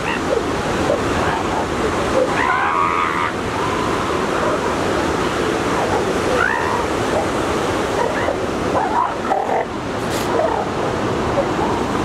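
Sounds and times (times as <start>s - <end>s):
ocean surf on a beach: 0.0s - 12.0s.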